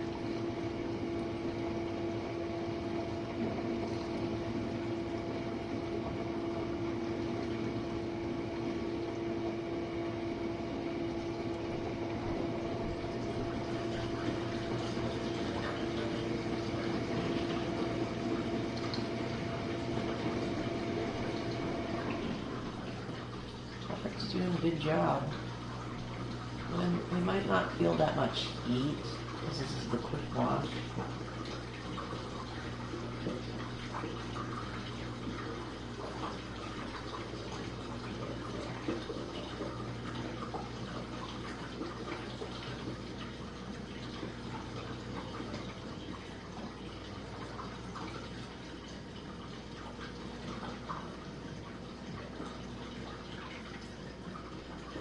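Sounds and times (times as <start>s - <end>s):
dishwasher pump humming: 0.0s - 55.0s
water spraying and sloshing: 0.0s - 55.0s.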